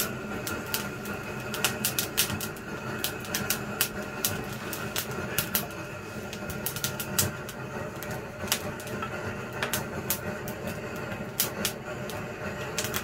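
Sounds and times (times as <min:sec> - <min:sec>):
low rush of flame: 0:00.0 - 0:13.0
wood fire crackling: 0:00.0 - 0:13.0.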